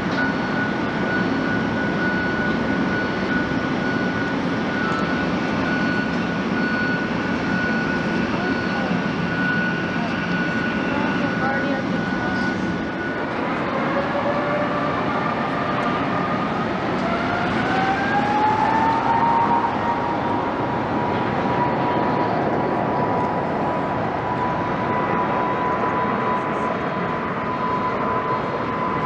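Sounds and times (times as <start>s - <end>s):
jet engines roaring with whine: 0.0s - 29.0s.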